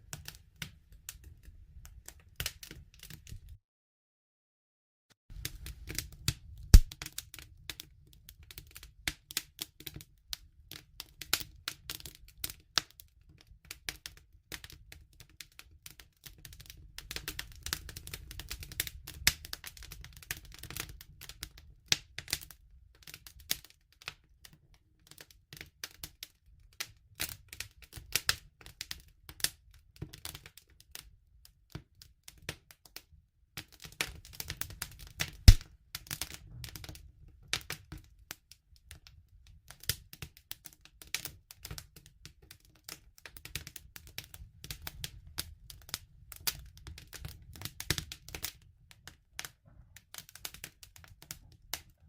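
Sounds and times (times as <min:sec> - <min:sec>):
wood fire crackling and popping: 0:05.4 - 0:26.2, 0:26.8 - 0:31.0, 0:33.6 - 0:38.1, 0:39.7 - 0:52.0.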